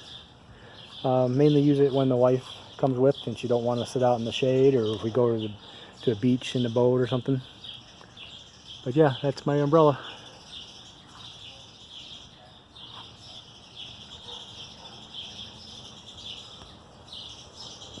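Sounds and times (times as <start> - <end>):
high-pitched chirping chorus: 0.0 - 18.0.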